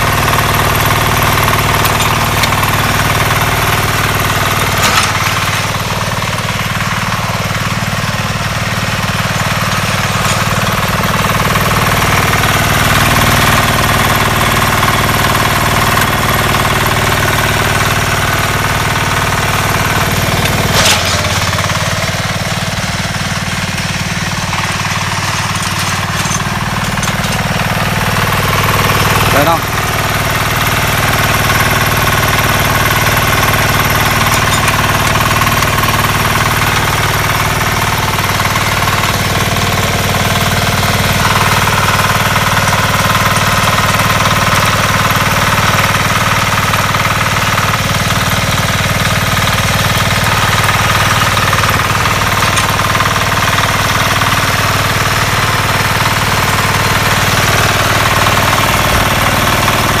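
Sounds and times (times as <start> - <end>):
diesel engine chugging: 0.0 - 60.0.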